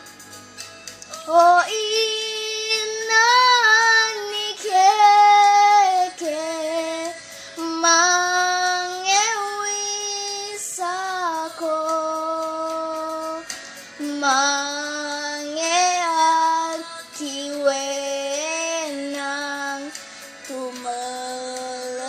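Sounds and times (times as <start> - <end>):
girl singing unaccompanied: 1.1 - 22.0.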